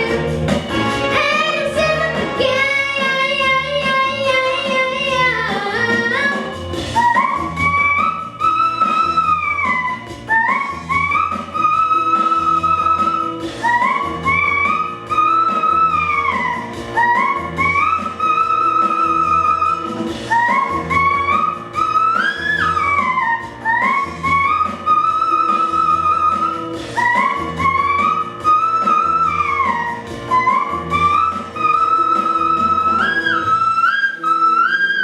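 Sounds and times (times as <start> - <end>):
gliding melody over rhythmic bass: 0.0 - 35.0.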